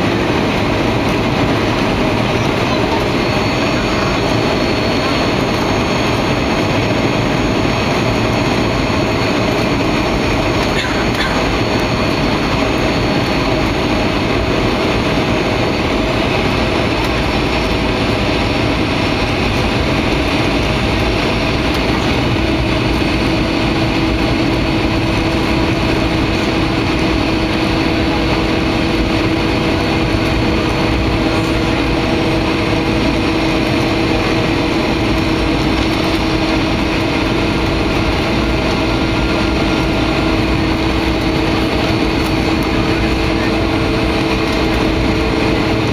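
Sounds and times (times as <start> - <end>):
aircraft engine drone: 0.0 - 45.9
rushing airflow in cabin: 0.0 - 45.9.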